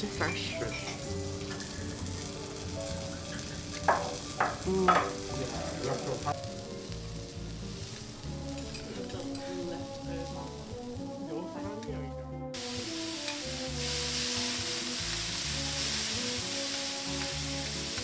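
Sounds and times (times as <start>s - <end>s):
meat sizzling on griddle: 0.0s - 11.1s, 12.6s - 18.0s
background music: 0.0s - 18.0s.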